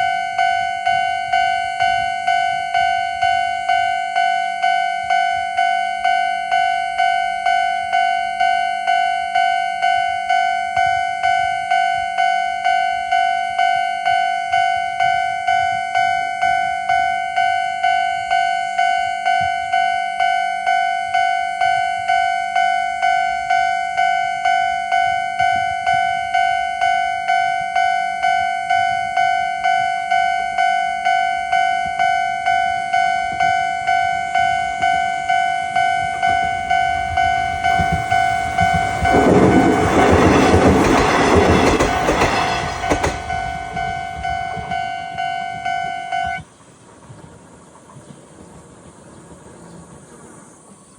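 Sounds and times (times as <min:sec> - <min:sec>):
level crossing warning bell: 0:00.0 - 0:46.5.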